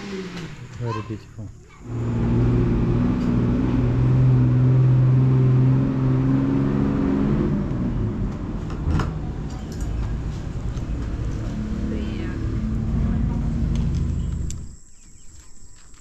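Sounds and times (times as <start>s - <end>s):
vehicle engine humming: 0.0s - 14.9s.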